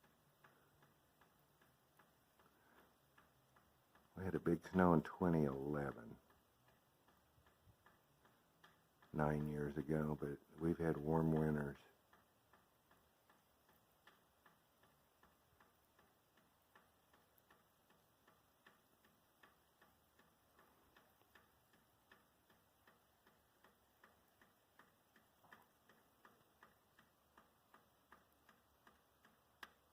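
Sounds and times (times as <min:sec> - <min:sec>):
faint ticking: 0:00.0 - 0:29.9.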